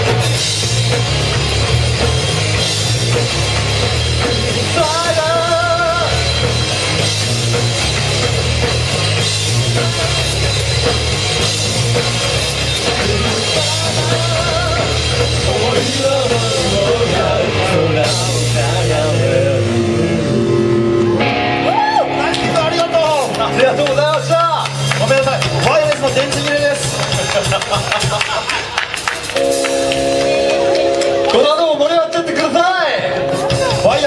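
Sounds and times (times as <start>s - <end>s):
drum kit: 0.0s - 34.0s
guitars: 0.0s - 34.0s.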